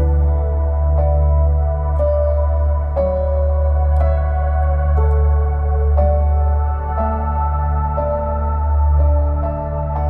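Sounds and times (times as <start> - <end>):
deep bass drone: 0.0 - 10.0
soft held synth notes: 0.0 - 10.0.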